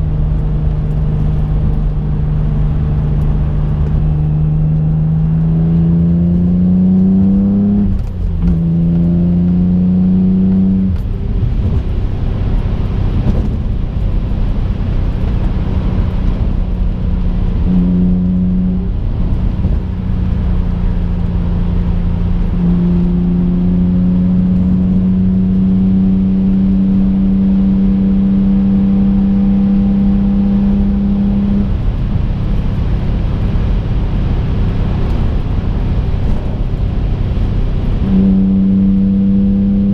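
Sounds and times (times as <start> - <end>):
car engine revving: 0.0 - 39.9
road rumble: 0.0 - 39.9.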